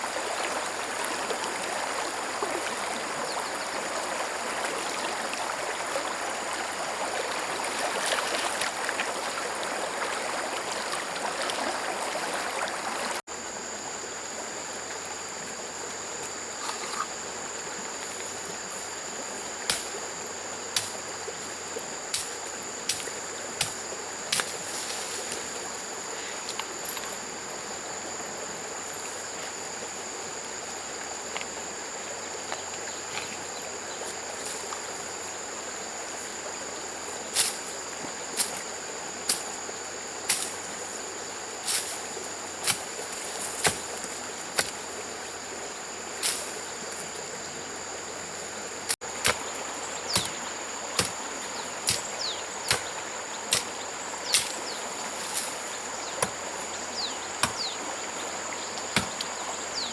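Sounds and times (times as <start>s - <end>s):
high drone of insects: 0.0s - 59.9s
stream running: 0.0s - 59.9s.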